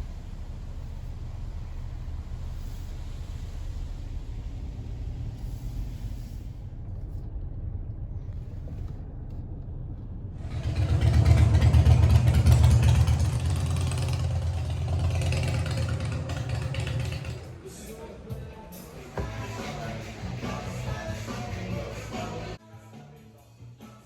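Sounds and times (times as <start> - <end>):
vehicle engine and road noise: 0.0 - 22.6.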